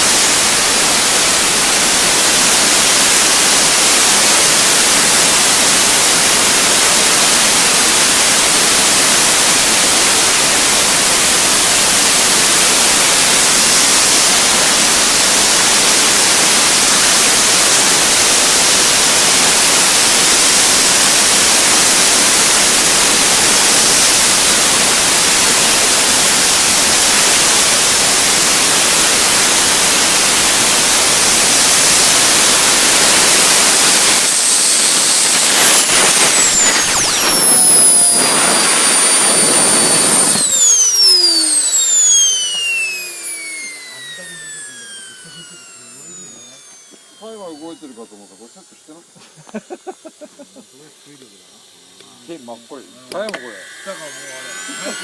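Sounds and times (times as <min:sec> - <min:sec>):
model jet turbine engine whine: 0:00.0 - 0:55.0.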